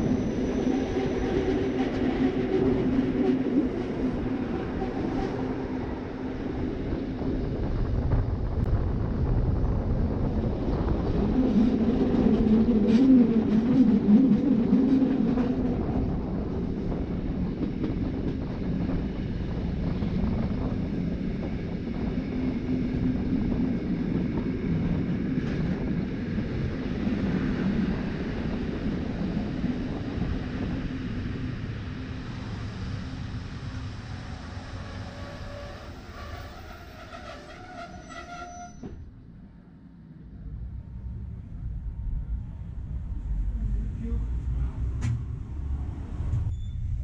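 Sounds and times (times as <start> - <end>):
train wheels rumbling on rail: 0.0 - 39.1, 40.3 - 47.0.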